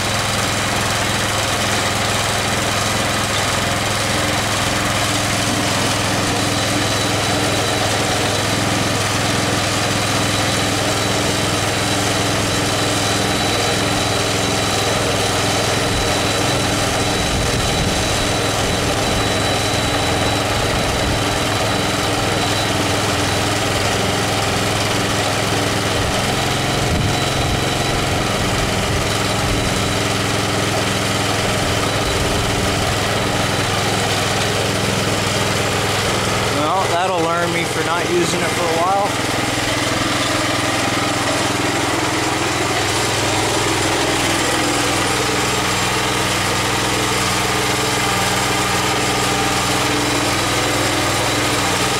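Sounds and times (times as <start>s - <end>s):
small gasoline engine idling: 0.0s - 51.9s.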